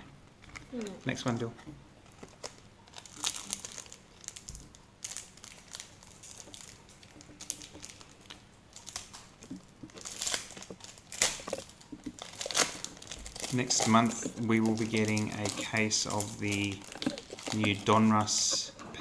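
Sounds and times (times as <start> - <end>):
foil packet crinkling and tearing: 2.1 - 19.0.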